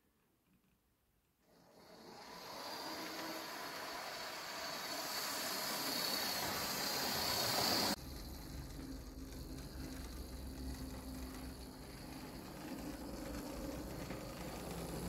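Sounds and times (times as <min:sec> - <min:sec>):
model train motor whine: 0:01.4 - 0:15.0.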